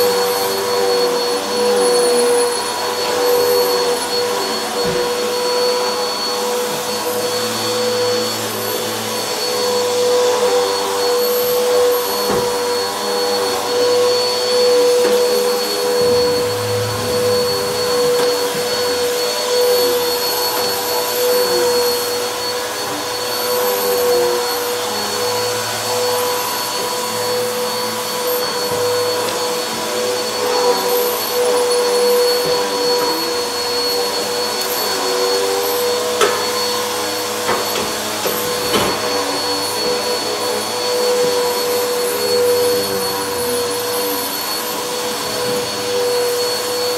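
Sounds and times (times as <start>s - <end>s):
vacuum cleaner on carpet: 0.0s - 46.9s.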